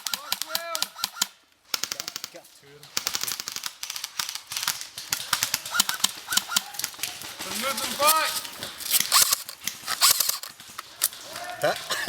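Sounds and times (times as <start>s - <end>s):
airsoft guns firing full auto: 0.0s - 12.0s.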